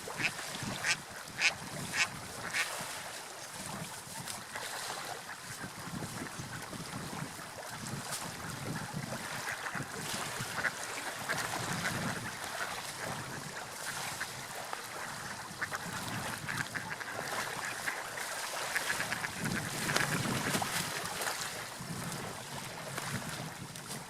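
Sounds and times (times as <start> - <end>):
water lapping and splashing: 0.0 - 24.0.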